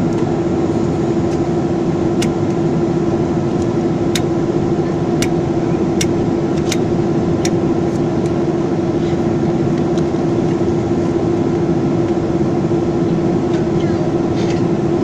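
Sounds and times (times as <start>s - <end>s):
jet engines idling cabin drone: 0.0s - 15.0s.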